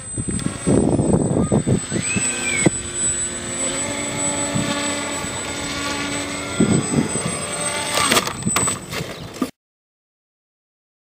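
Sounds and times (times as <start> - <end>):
rough bursts of noise: 0.0 - 9.0
electric motors and propellers humming: 0.0 - 9.5.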